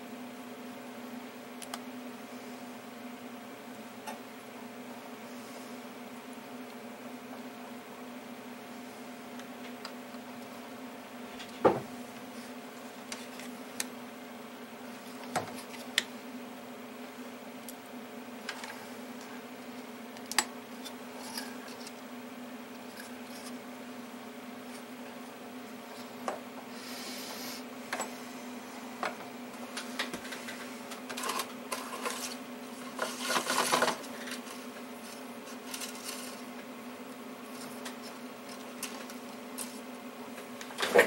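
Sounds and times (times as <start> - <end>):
steady electrical hum: 0.0 - 41.0.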